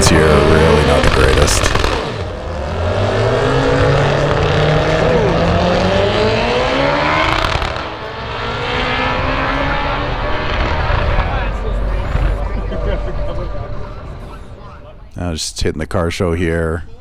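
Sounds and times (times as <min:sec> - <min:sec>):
race car accelerating hard: 0:00.0 - 0:15.2.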